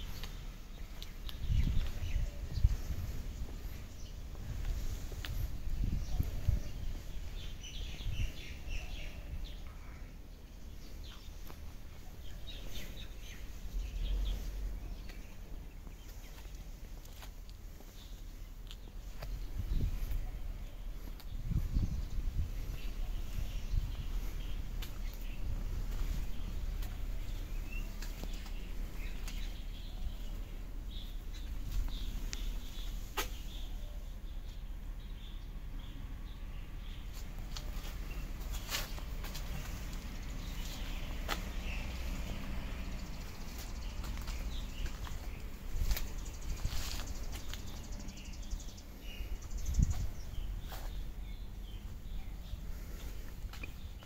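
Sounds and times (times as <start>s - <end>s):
birds chirping: 0.0s - 54.0s
steady low rumble: 0.0s - 54.0s.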